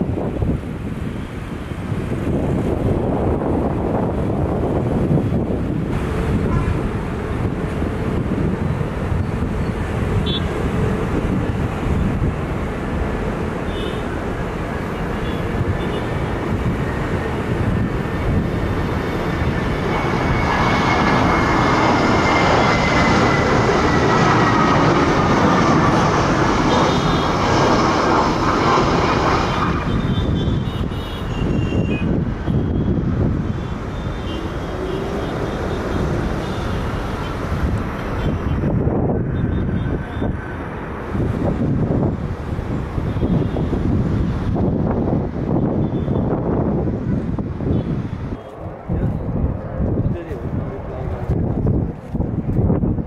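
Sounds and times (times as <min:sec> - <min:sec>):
jet engines of landing airliner: 0:00.0 - 0:53.0.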